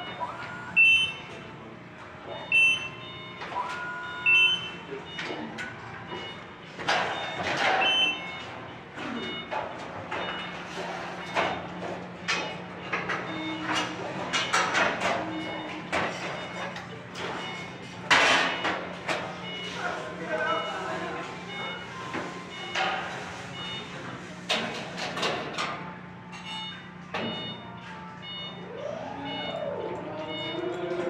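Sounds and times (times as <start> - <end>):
electronic warning beeps: 0.0 - 1.4, 2.2 - 31.0.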